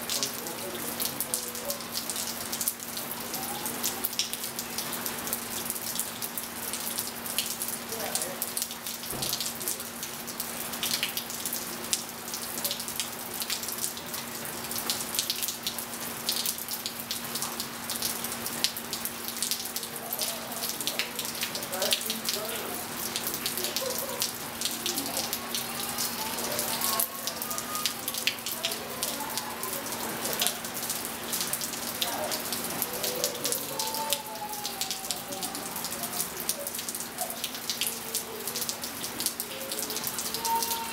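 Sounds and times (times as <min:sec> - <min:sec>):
rain dripping and splatting: 0:00.0 - 0:40.9.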